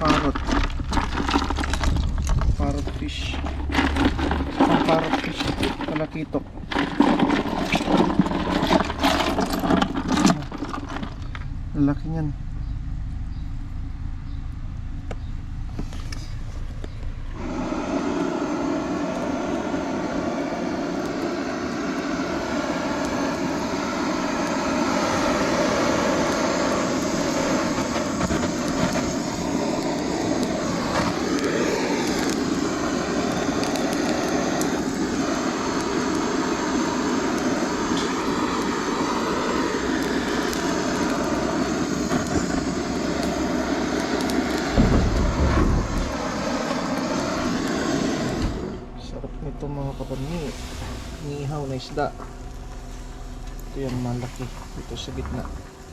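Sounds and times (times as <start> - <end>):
engine drone: 0.0 - 55.9.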